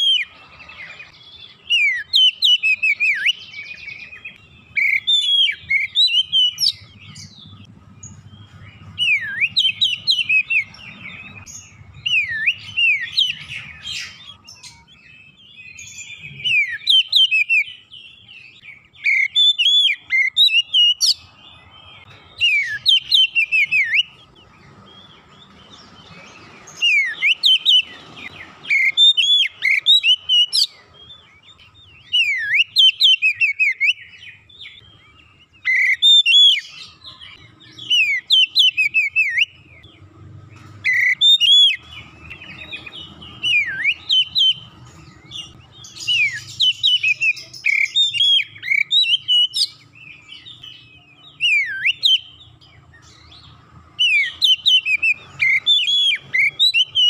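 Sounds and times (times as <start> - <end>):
bird singing whistled phrases: 1.1 - 7.4, 9.0 - 21.3, 22.0 - 24.3, 26.1 - 39.8, 40.8 - 52.5, 54.0 - 57.0.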